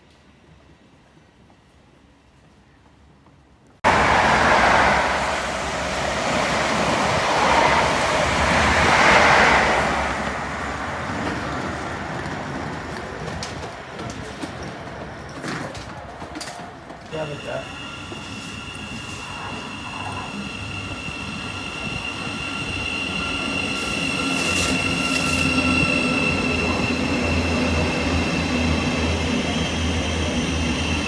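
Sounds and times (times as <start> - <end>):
train passing: 3.8 - 31.0.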